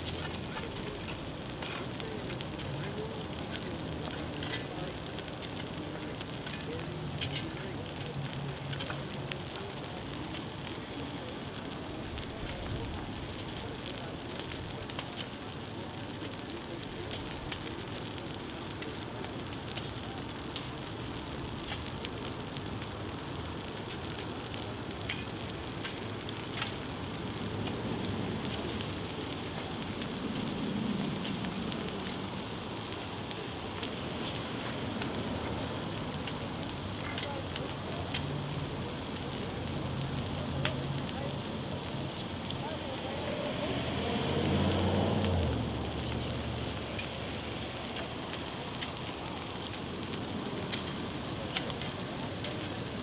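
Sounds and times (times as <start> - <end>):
fire crackling and popping: 0.0 - 53.0
grass fire hissing: 0.0 - 53.0.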